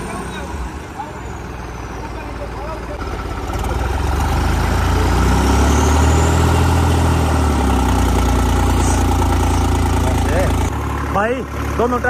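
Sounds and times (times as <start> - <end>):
diesel tractor engine revving: 0.0 - 12.0.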